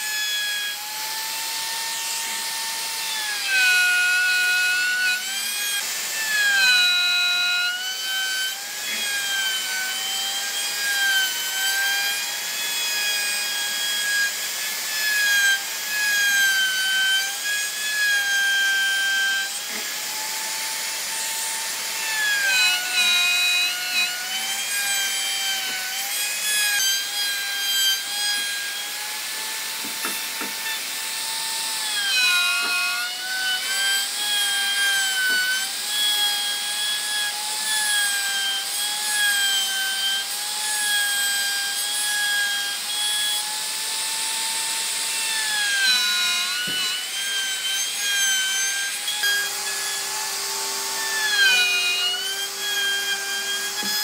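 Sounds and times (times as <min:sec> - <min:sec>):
power tool motor whining: 0:00.0 - 0:54.0
wood rasping: 0:00.0 - 0:54.0.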